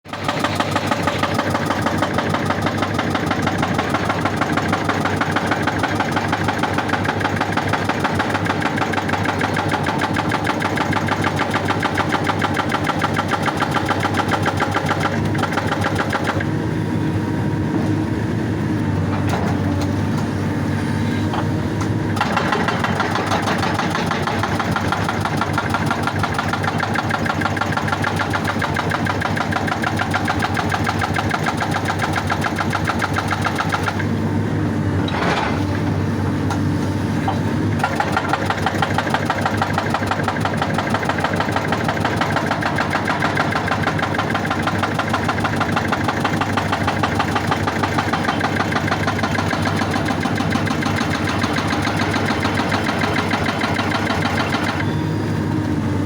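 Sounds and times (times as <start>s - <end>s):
hydraulic breaker hammering rock: 0.1s - 16.6s, 21.3s - 34.3s, 34.9s - 55.0s
diesel engine running: 0.1s - 56.0s.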